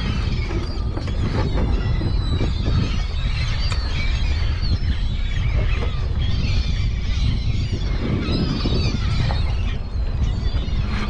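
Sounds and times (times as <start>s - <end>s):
seabirds crying: 0.0s - 11.0s
wind buffeting microphone: 0.0s - 11.0s.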